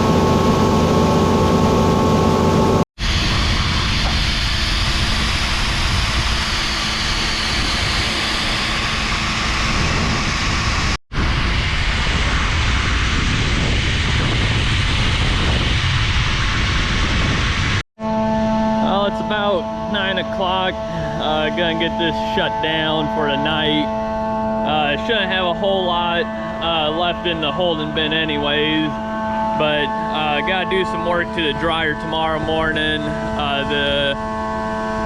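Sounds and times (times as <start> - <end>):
loud even fan-like roar: 0.0 - 35.0
machine hum with pitched drone: 0.0 - 35.0.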